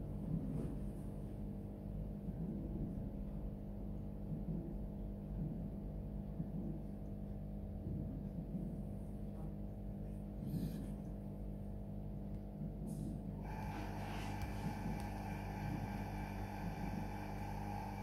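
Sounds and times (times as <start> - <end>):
low hum of held tones: 0.0 - 18.0.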